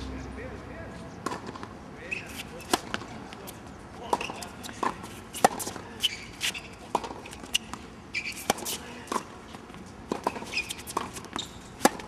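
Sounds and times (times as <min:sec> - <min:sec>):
tennis shoes squeaking: 0:01.0 - 0:12.0
racket striking tennis ball: 0:01.2 - 0:12.0
tennis ball bouncing: 0:01.2 - 0:12.0.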